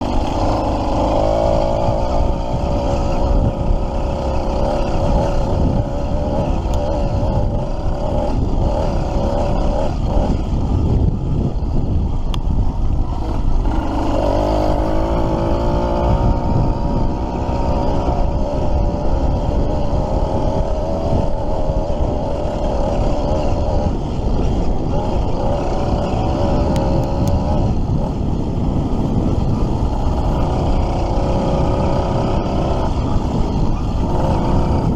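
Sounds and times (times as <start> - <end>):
two-stroke bicycle engine running: 0.0 - 34.9.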